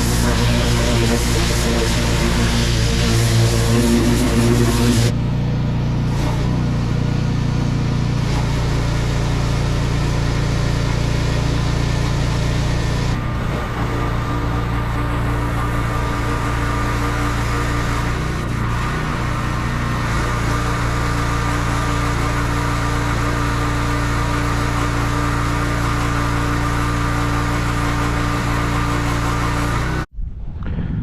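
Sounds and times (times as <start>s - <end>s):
water spray hissing: 0.0s - 5.1s, 8.2s - 30.0s
pressure washer engine running: 0.0s - 30.1s.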